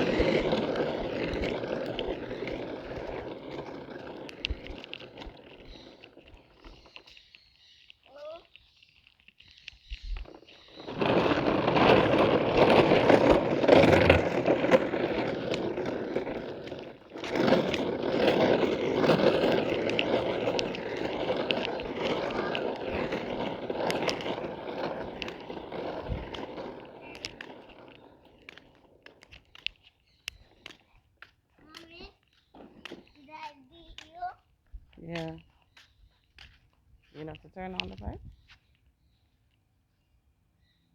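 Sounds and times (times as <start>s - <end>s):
plastic toy wheels rolling on ground: 0.0s - 39.6s.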